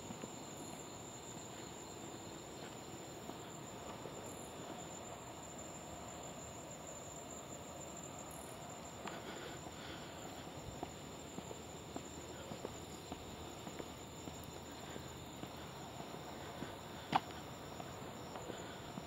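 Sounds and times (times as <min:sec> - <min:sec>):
footsteps on paved path: 0:00.0 - 0:06.1, 0:08.3 - 0:19.0
crickets chirring: 0:00.0 - 0:19.0.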